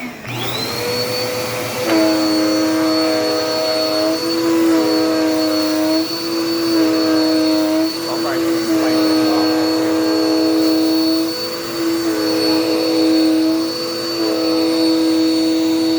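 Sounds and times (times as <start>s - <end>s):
vacuum cleaner motor whining: 0.0s - 15.9s.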